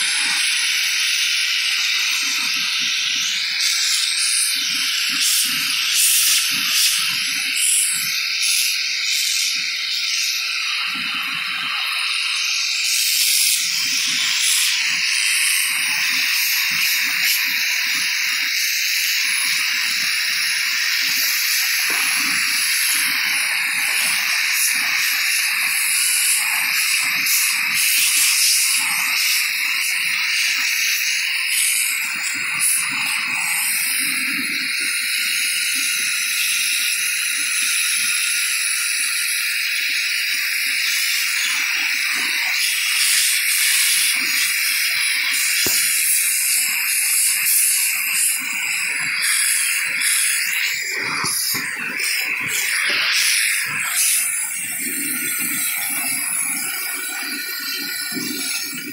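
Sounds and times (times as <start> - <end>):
vacuum cleaner suction hiss: 0.0 - 58.9.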